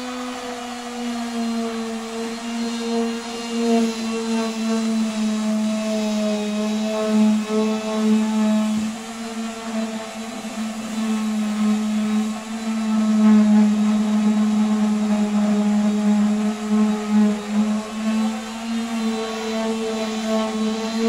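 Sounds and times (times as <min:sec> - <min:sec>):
electric sander whirring on wood: 0:00.0 - 0:21.0.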